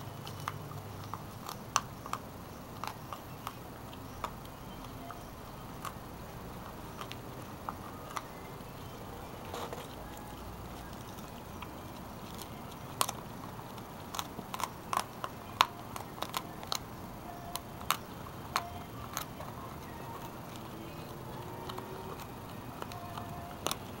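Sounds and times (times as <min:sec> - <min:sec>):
puppy chewing crunchy treat: 0:00.0 - 0:24.0.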